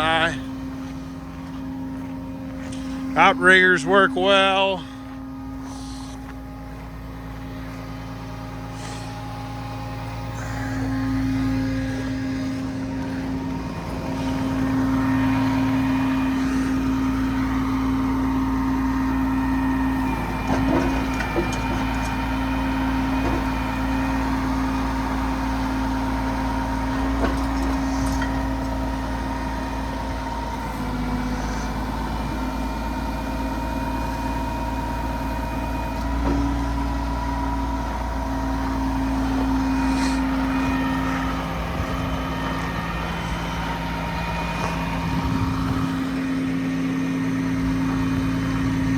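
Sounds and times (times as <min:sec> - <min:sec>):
hydraulic whine: 0:00.0 - 0:48.9
truck diesel engine running: 0:00.0 - 0:48.9.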